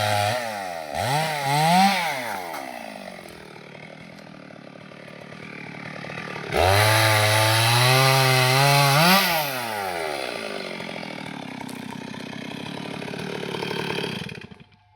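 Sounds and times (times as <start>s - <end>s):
chainsaw revving and idling: 0.0s - 14.9s.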